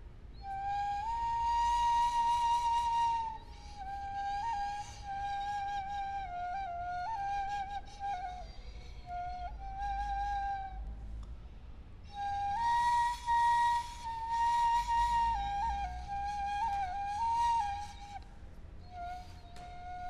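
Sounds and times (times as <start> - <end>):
wind instrument melody: 0.5 - 10.9, 12.1 - 18.2.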